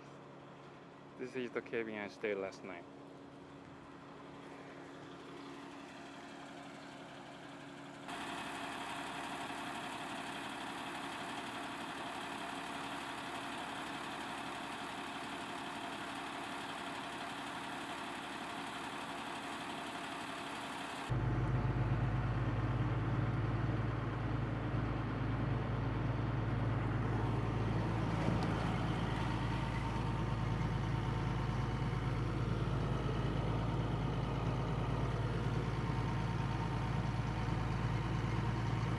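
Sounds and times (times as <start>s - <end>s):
vehicle engine running: 2.8s - 38.9s.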